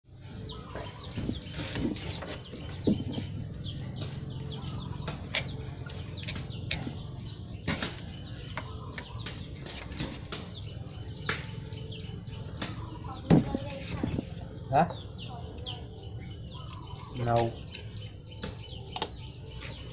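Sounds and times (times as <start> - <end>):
birds chirping: 0.1 - 19.9.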